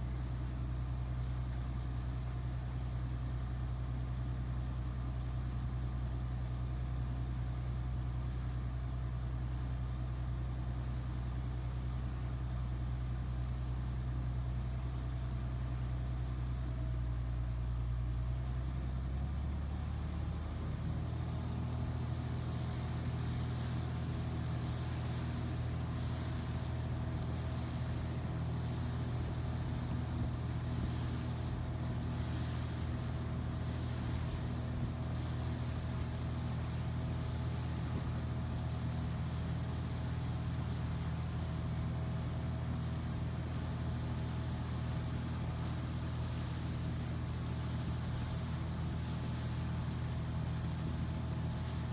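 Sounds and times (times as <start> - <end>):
low engine hum: 0.0 - 51.9.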